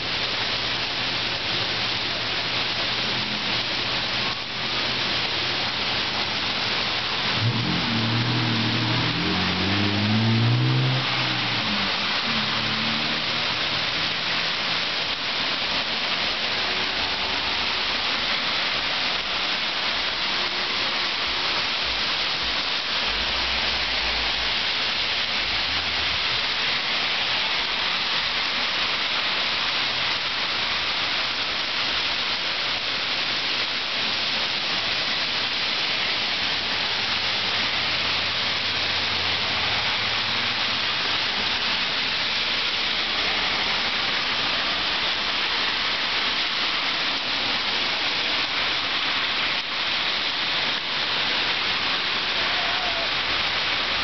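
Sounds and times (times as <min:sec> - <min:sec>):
heavy rain pouring on a street: 0:00.0 - 0:54.0.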